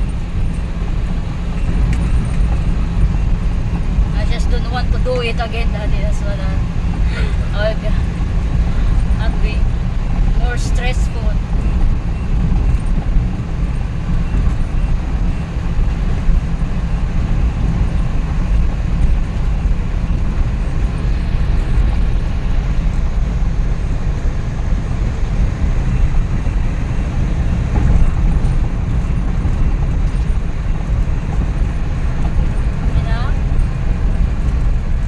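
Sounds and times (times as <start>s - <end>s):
van engine and road noise: 0.0s - 35.0s.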